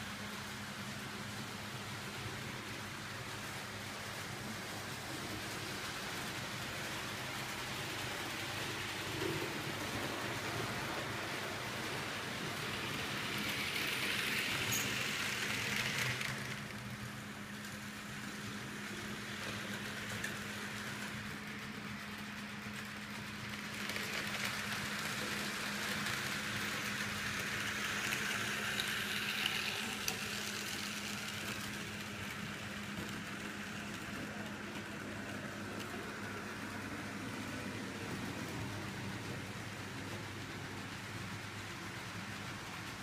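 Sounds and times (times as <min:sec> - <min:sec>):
model train wheels whirring: 0:00.0 - 0:43.0.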